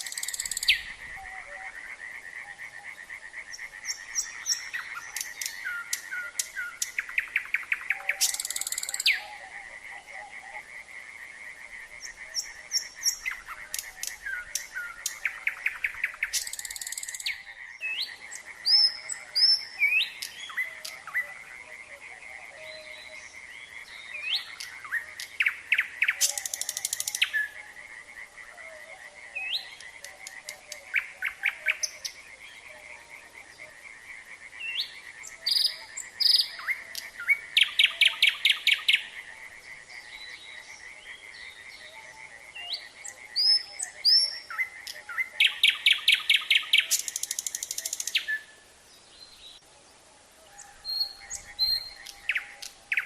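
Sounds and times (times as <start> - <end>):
nightingale singing: 0.0 - 10.7, 11.8 - 53.0
frogs calling: 0.0 - 48.8, 50.2 - 53.0.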